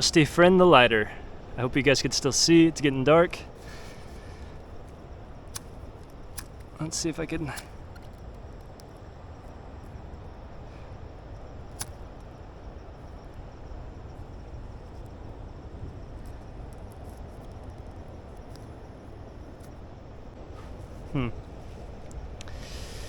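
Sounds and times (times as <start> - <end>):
faint insects chirping: 0.0 - 23.0
outdoor background noise: 0.0 - 23.0.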